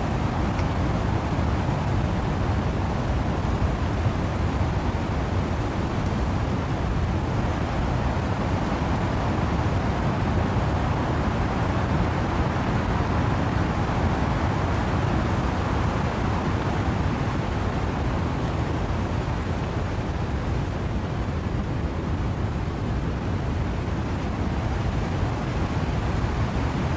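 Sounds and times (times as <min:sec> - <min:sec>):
wind and rain through trees: 0:00.0 - 0:26.9.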